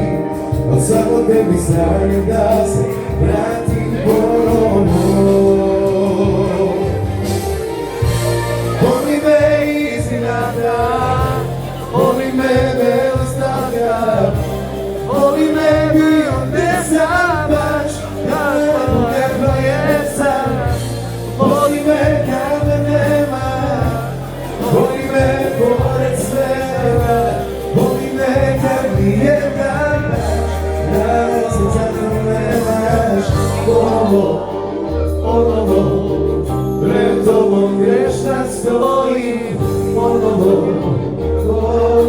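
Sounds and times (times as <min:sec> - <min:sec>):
lead melody with vibrato: 0:00.0 - 0:42.0
sustained bass line: 0:00.0 - 0:42.0.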